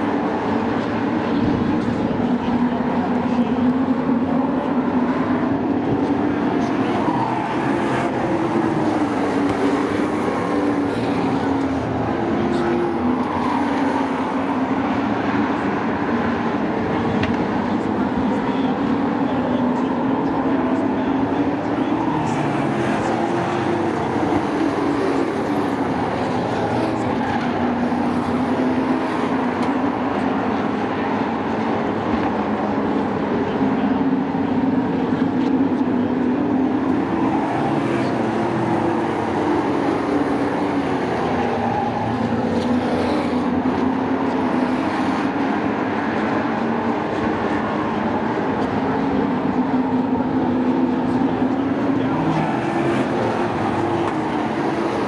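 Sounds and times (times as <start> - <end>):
race truck engines: 0.0 - 55.0.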